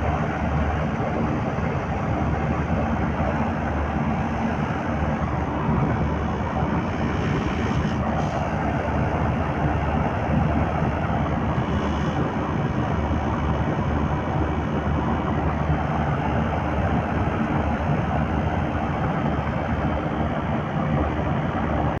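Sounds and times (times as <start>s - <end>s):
air conditioner compressor running: 0.0s - 22.0s.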